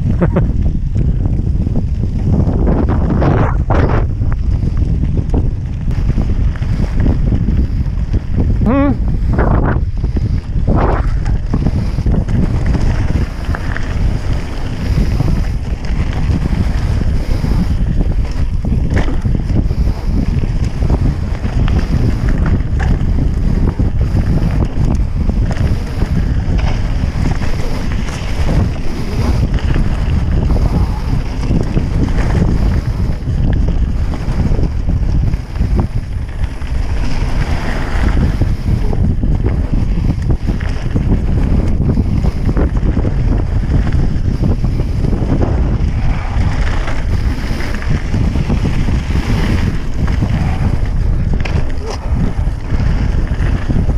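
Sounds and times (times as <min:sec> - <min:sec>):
bike rattles and clicks on gravel: 0:00.0 - 0:53.9
wind buffeting microphone: 0:00.0 - 0:53.9.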